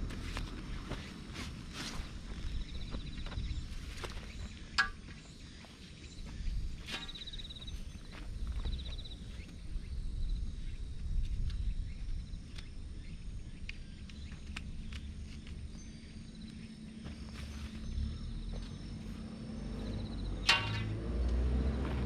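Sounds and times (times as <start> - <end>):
rustles of walking among plants: 0.0 - 9.8, 11.0 - 20.0.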